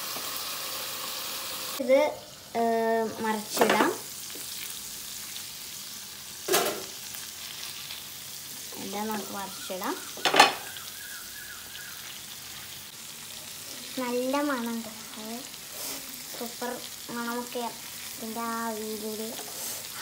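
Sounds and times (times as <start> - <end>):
meat sizzling in frying pan: 0.0 - 20.0.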